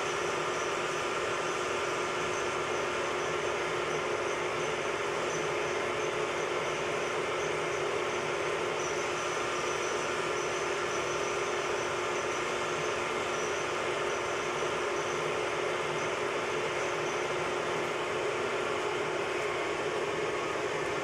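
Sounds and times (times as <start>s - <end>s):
metal lathe running: 0.0s - 21.0s.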